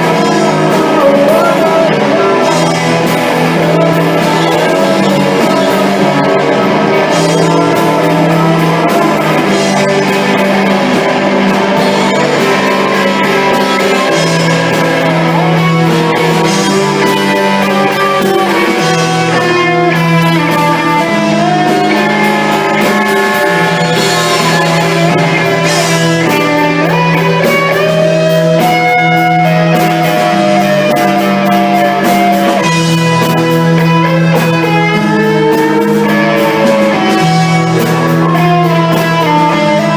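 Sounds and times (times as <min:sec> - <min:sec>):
rock band playing instrumental: 0:00.0 - 0:39.9.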